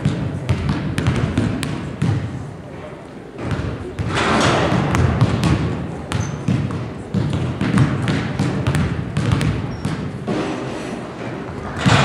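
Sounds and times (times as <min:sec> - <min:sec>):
basketball bouncing on gym floor: 0:00.0 - 0:02.4, 0:03.4 - 0:10.6, 0:11.4 - 0:12.0
murmur of spectators talking: 0:00.0 - 0:12.0.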